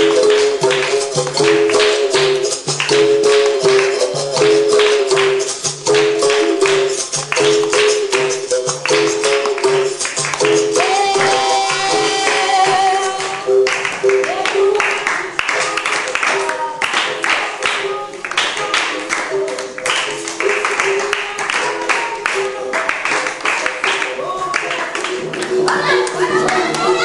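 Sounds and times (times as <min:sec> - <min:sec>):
berimbau and pandeiro rhythm: 0:00.0 - 0:27.0.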